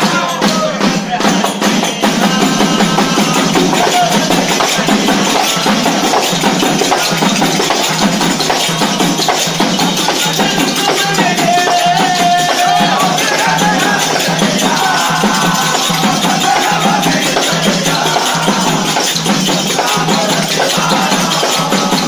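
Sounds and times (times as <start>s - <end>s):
devotional group singing: 0.0s - 22.0s
rhythmic hand percussion: 0.0s - 22.0s.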